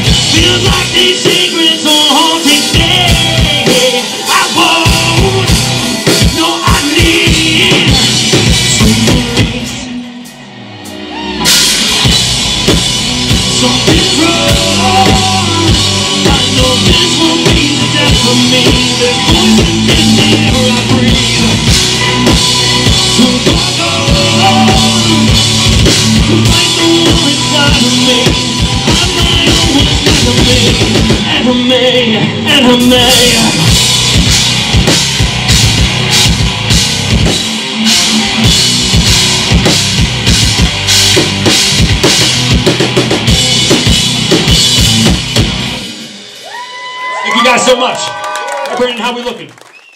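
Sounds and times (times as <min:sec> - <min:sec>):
bass guitar: 0:00.0 - 0:47.8
drum kit: 0:00.0 - 0:48.0
electric guitars: 0:00.0 - 0:48.7.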